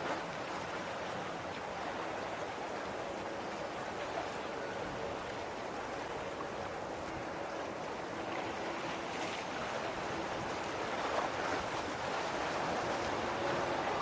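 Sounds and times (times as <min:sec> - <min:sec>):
faint steady tones: 0:00.0 - 0:14.0.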